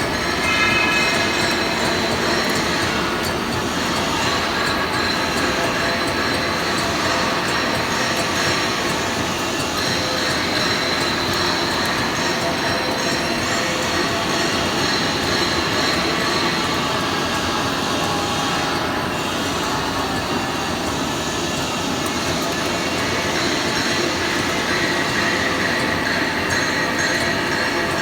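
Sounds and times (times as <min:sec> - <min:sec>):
machine running with high whine: 0:00.0 - 0:28.0.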